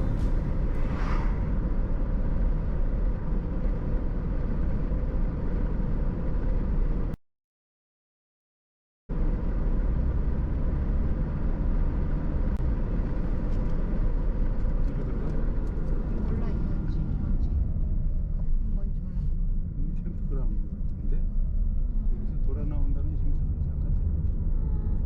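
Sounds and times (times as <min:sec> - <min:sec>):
car road and engine rumble: 0:00.0 - 0:07.2, 0:09.1 - 0:25.0.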